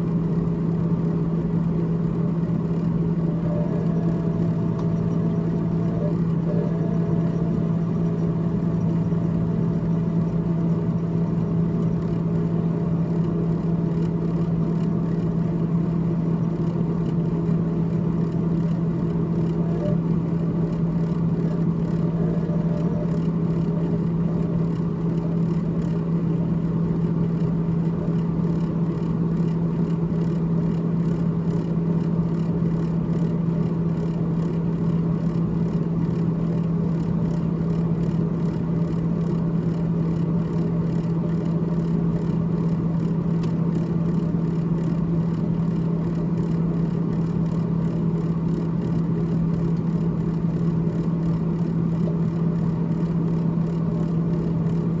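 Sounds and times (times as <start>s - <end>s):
freezer fan whirring hum: 0.0s - 55.0s.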